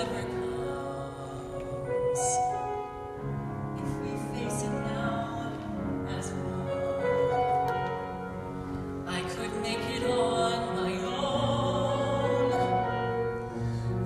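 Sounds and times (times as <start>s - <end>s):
piano playing held chords: 0.0s - 14.0s.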